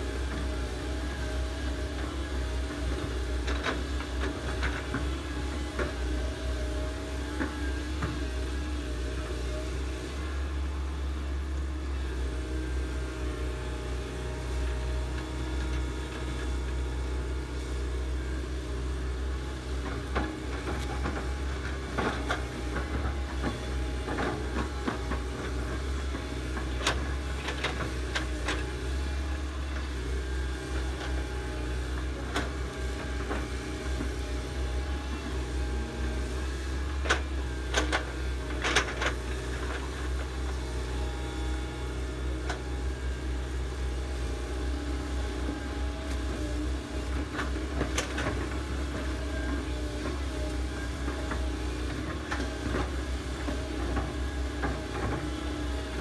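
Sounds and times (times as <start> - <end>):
excavator diesel engines: 0.0 - 56.0.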